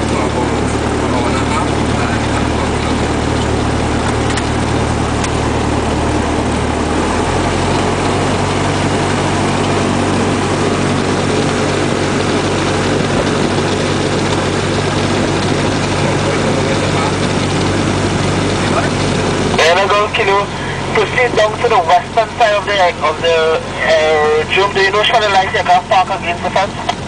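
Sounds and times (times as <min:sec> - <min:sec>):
light aircraft engine and propeller: 0:00.0 - 0:27.0.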